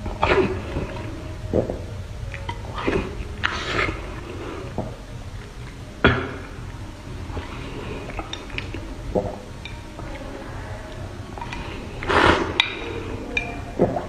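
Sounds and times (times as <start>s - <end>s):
slurping and chewing: 0.0s - 14.0s.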